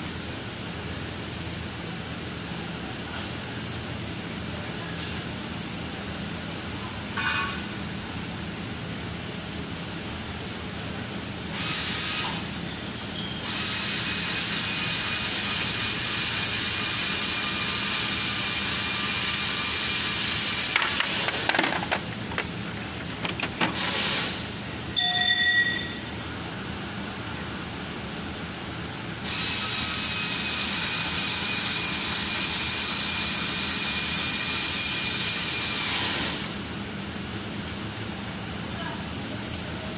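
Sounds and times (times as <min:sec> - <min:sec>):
workshop hum: 0:00.0 - 0:39.9.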